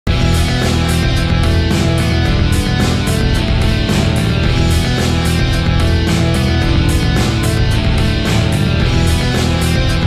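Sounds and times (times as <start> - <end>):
rock music with guitar: 0.1 - 10.0.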